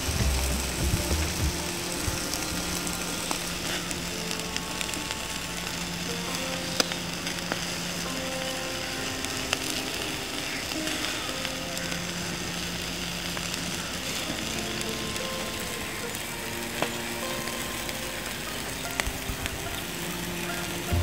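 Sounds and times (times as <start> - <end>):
fire crackling and popping: 0.0 - 21.0
fish sizzling over charcoal fire: 0.0 - 21.0
soft background music: 0.0 - 21.0.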